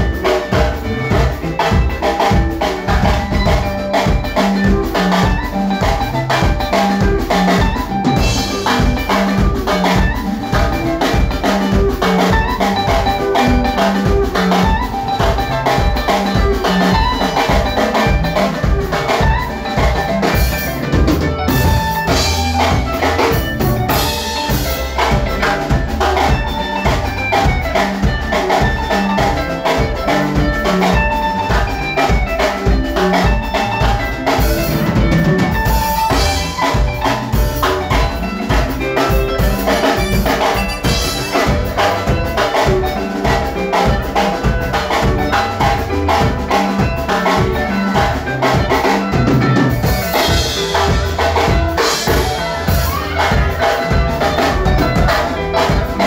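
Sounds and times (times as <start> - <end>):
driving drum-kit beat: 0.0 - 56.0
electric bass: 0.0 - 56.0
electric guitar lines: 0.0 - 56.0.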